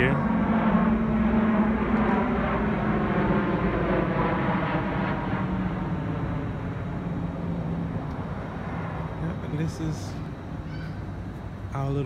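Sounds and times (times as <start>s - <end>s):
airplane droning overhead: 0.0s - 12.0s.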